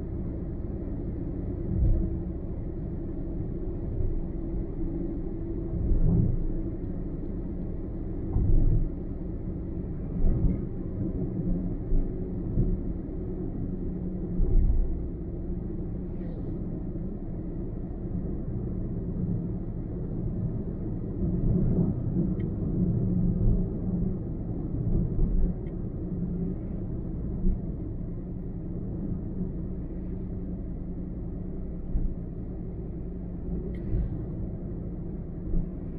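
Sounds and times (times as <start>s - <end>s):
car tyres and engine rumbling: 0.0s - 35.9s.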